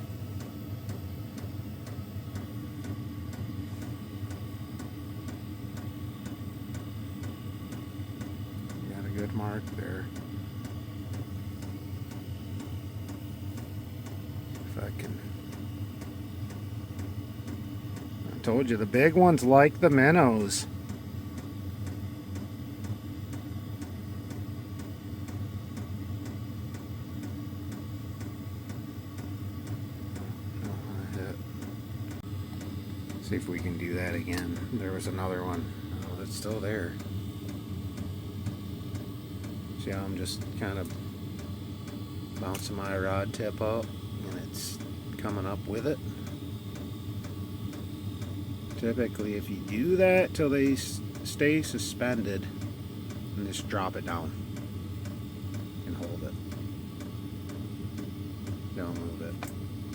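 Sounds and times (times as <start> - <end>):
diesel air heater humming: 0.0 - 59.9.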